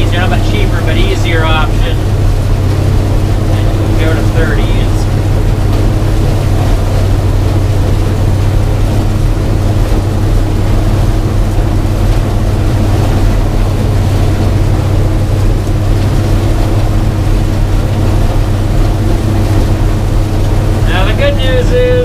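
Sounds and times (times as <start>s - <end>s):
combine engine drone: 0.0s - 22.0s
threshing machinery noise: 0.0s - 22.0s.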